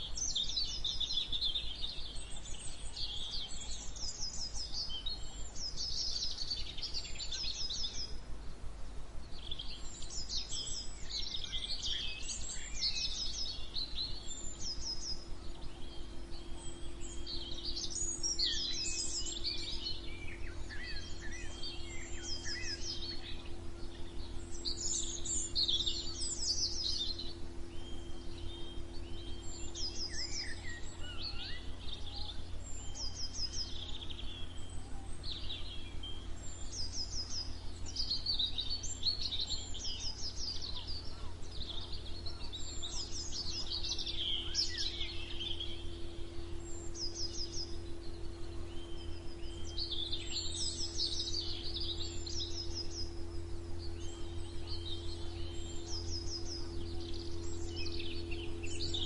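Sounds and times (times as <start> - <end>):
low background rumble: 0.0 - 59.0
songbirds singing and chirping: 0.0 - 59.0.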